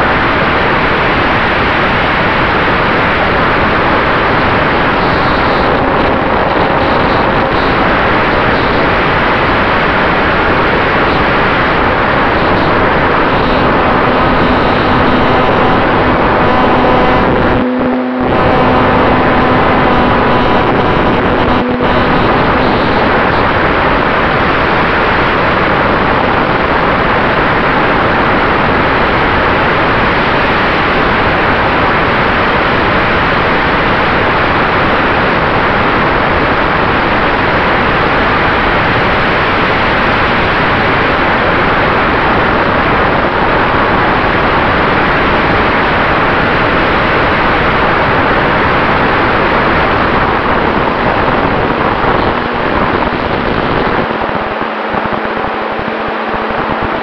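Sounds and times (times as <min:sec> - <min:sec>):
propeller noise: 0:00.0 - 0:57.0
wind rush: 0:00.0 - 0:57.0.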